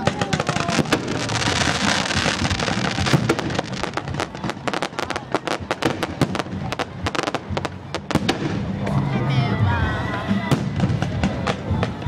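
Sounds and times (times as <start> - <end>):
fireworks fizzing and crackling: 0.0 - 9.1, 10.4 - 12.0.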